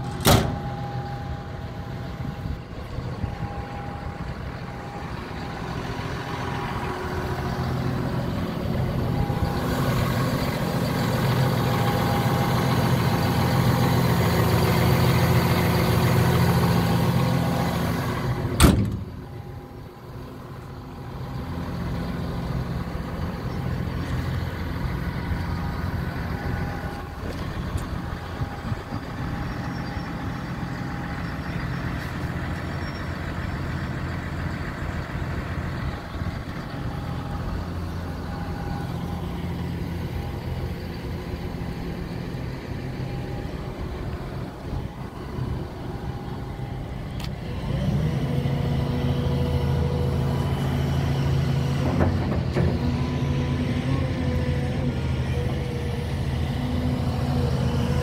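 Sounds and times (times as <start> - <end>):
excavator diesel engine idling: 0.0 - 58.0.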